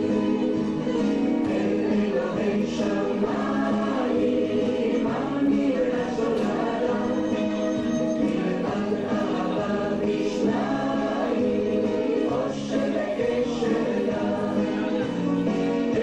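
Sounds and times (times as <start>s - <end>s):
choir singing folk dance song: 0.0s - 16.0s.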